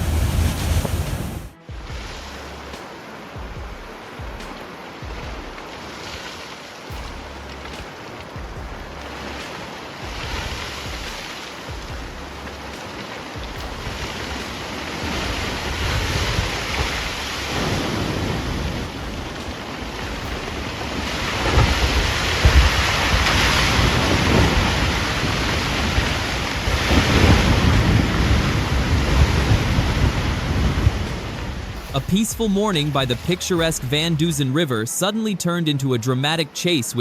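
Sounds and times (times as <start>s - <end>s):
wind buffeting microphone: 0.0s - 34.3s
heavy seas crashing: 0.0s - 37.0s.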